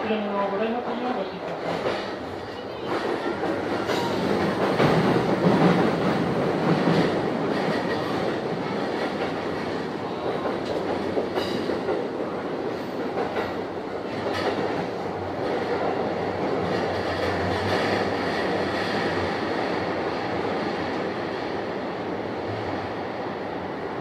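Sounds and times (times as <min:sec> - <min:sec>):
train wheels rumbling on rail: 0:00.9 - 0:24.0.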